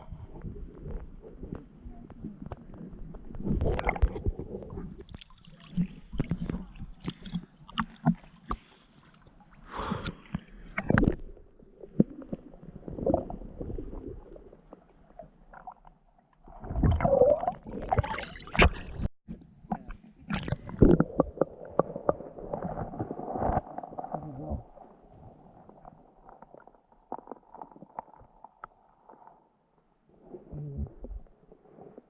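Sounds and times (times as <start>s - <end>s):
water gurgling and sloshing: 0.0s - 32.0s.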